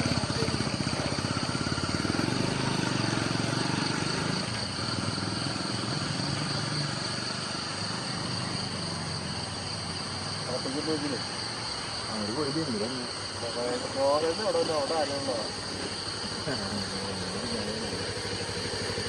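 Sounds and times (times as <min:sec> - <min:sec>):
engine idling: 0:00.0 - 0:19.0
high-pitched insect drone: 0:00.0 - 0:19.0.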